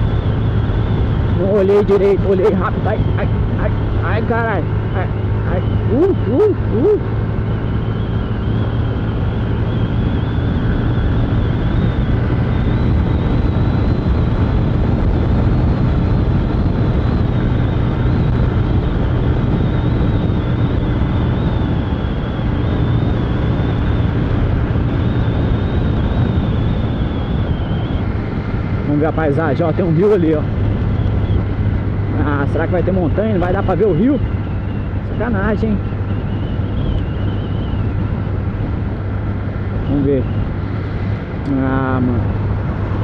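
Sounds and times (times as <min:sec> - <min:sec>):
motorcycle engine droning: 0:00.0 - 0:43.0
wind rush on microphone: 0:00.0 - 0:43.0.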